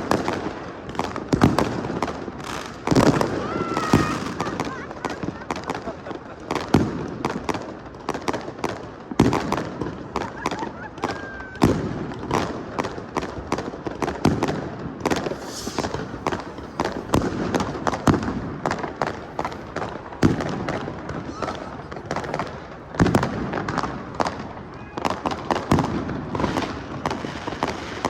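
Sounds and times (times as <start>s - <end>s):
fireworks booms: 0.0s - 8.2s, 11.6s - 28.0s
fireworks cracking and popping: 0.0s - 28.0s.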